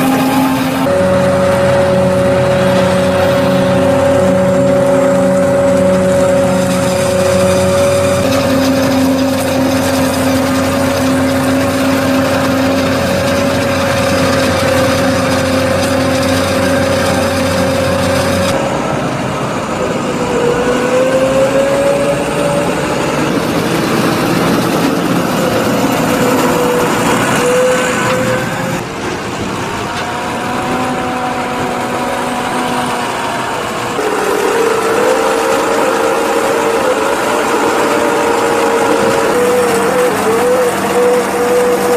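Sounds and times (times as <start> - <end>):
forage harvester droning: 0.0 - 41.9
tractor engine: 0.0 - 41.9.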